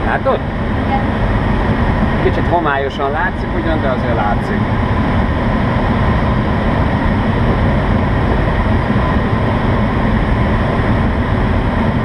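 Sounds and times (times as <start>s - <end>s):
airflow rushing over glider: 0.0s - 12.0s
fluttering low rumble: 0.0s - 12.0s.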